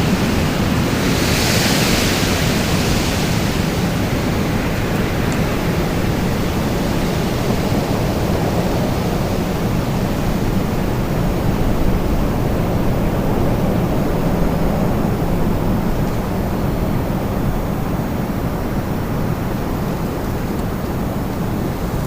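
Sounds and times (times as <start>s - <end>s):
strong storm wind blowing: 0.0s - 22.0s.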